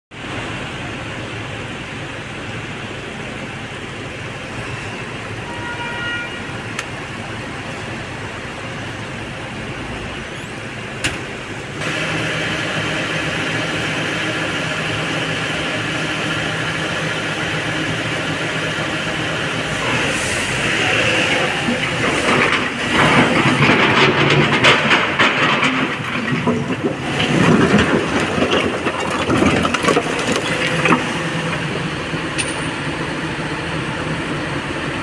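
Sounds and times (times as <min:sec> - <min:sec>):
excavator engine: 0:00.2 - 0:35.0.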